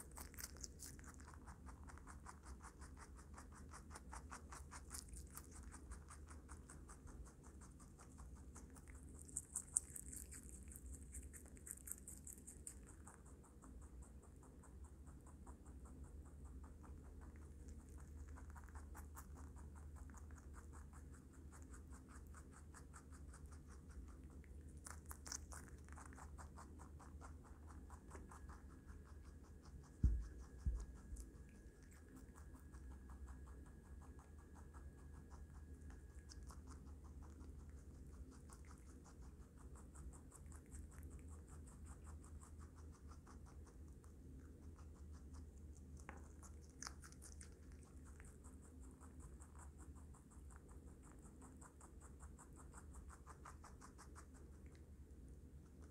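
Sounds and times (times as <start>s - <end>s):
rabbit chewing crunchy vegetables: 0.0s - 55.9s.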